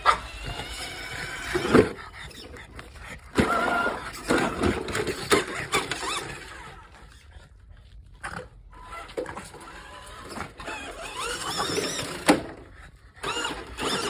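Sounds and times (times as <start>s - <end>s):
dog grunting and breathing hard: 0.0s - 14.0s.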